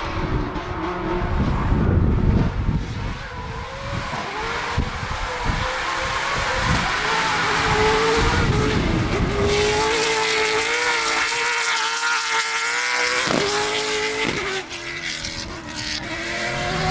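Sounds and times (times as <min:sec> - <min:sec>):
race car engine at high revs: 0:00.0 - 0:16.9.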